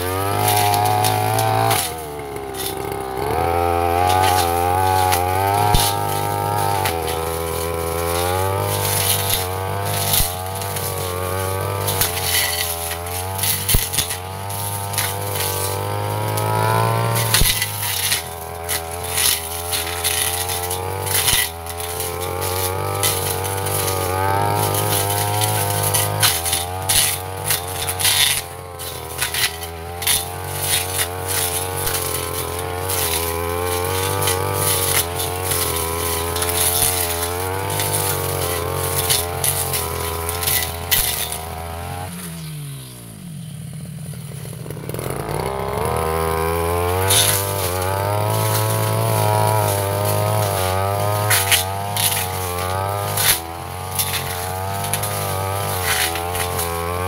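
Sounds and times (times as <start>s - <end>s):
stems striking the blade: 0.0s - 43.4s, 44.7s - 57.0s
brush cutter engine revving: 0.0s - 57.0s.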